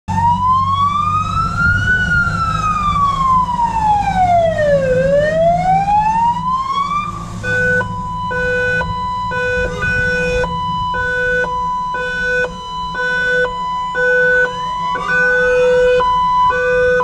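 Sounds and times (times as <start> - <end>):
fire engine siren: 0.1 - 17.0
low engine rumble: 0.1 - 17.0.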